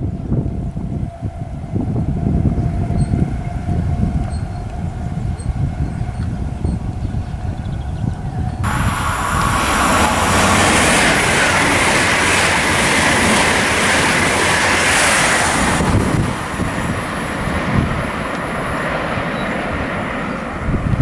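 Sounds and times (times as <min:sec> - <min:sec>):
high-speed train passing: 0:00.0 - 0:21.0
rushing air and wheel noise: 0:00.0 - 0:21.0.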